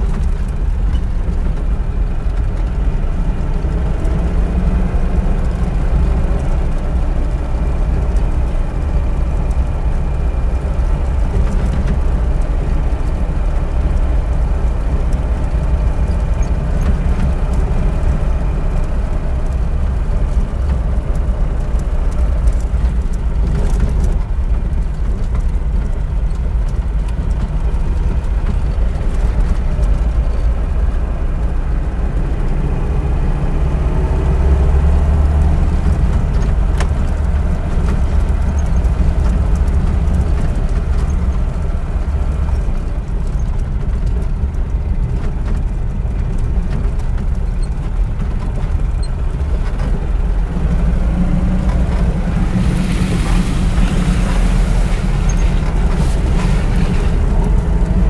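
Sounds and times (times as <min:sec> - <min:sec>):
car engine running steadily: 0:00.0 - 0:58.0.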